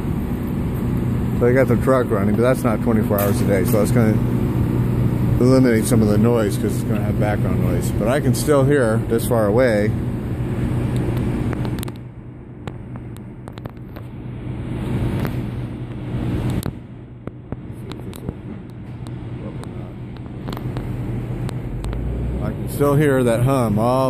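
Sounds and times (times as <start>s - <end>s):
low machinery hum: 0.0s - 24.0s
truck engine running: 0.0s - 24.0s.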